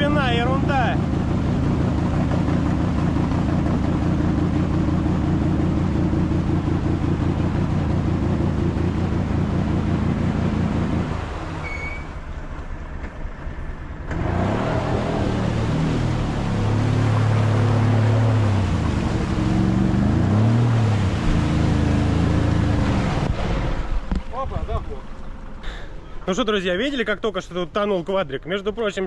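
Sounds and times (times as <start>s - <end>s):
vehicle engine running: 0.0s - 27.2s.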